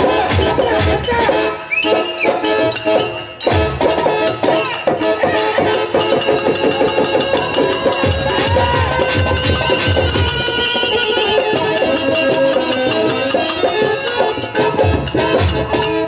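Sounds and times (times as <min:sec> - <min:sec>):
jingling hand percussion: 0:00.0 - 0:16.0
low drum beats: 0:03.0 - 0:16.0.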